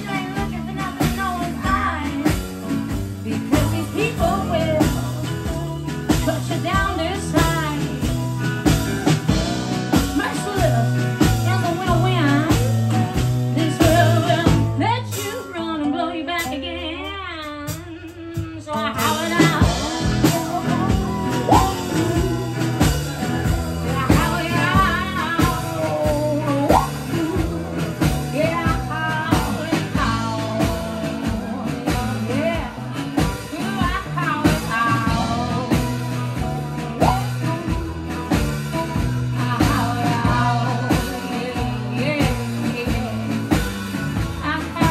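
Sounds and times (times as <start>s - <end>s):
acoustic guitar: 0.0s - 44.9s
bass: 0.0s - 44.9s
drum kit: 0.0s - 44.9s
lap steel guitar: 0.0s - 44.9s.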